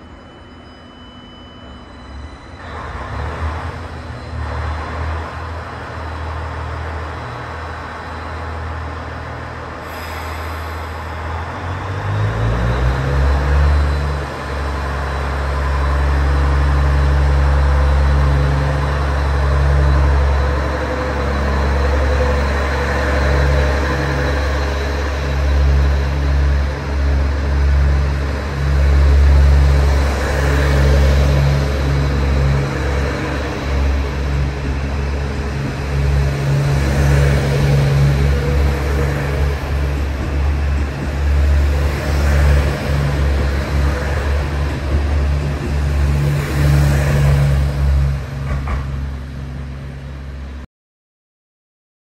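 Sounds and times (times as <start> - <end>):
train cars rolling past: 0.0 - 50.6
diesel engine revving and humming: 2.6 - 50.2.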